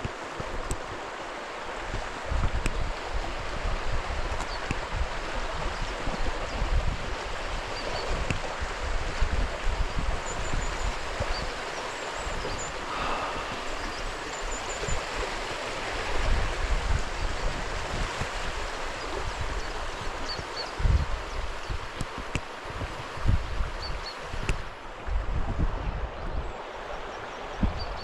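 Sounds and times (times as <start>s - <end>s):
stream rushing over boulders: 0.0s - 28.0s
wind rumbling on microphone: 0.0s - 28.0s.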